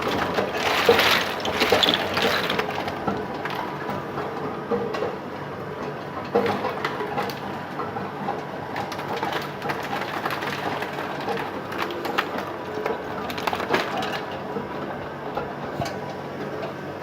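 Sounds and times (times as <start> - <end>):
ice machine running: 0.0 - 17.0.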